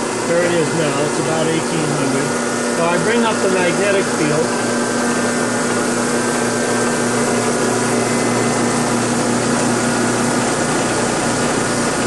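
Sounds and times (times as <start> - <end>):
electric motor whirring: 0.0 - 12.0.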